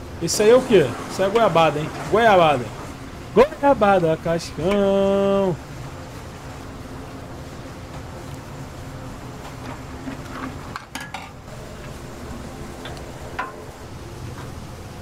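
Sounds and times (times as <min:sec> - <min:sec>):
low hum of gas burners: 0:00.0 - 0:15.0.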